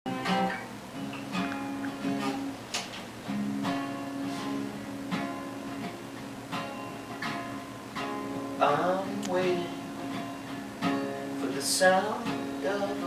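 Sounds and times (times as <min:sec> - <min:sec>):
acoustic guitar strumming: 0:00.1 - 0:13.0.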